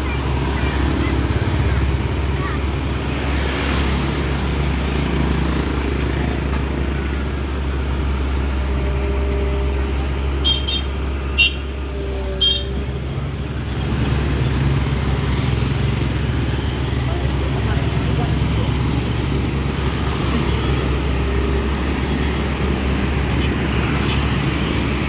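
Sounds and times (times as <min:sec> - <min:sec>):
diesel machinery droning: 0:00.0 - 0:25.0.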